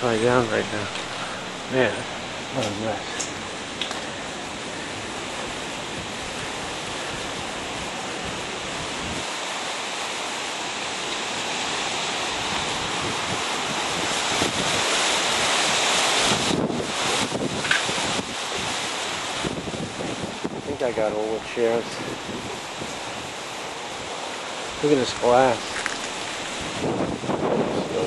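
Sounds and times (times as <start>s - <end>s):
hurricane wind buffeting microphone: 0.0s - 28.0s.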